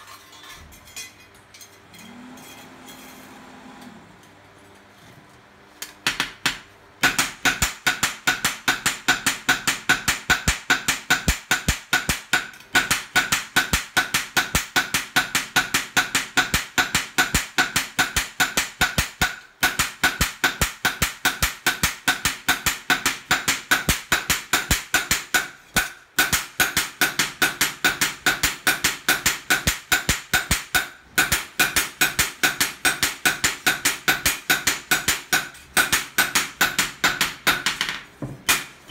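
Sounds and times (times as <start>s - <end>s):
hammers striking knife blade on anvil: 5.8s - 38.9s.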